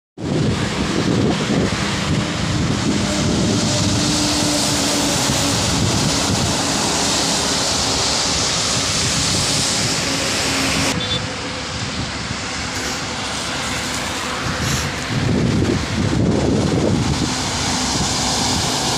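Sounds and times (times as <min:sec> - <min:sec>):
tyres hissing on wet road: 0:00.2 - 0:18.9
wind on microphone: 0:00.2 - 0:18.9.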